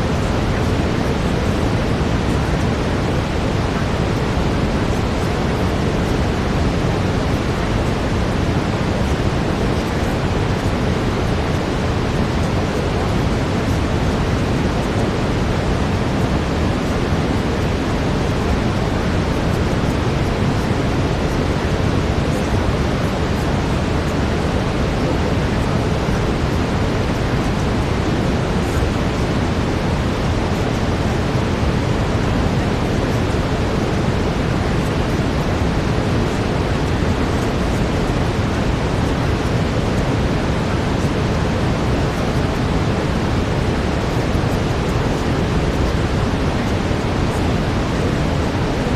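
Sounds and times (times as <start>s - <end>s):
brown noise: 0.0s - 48.9s.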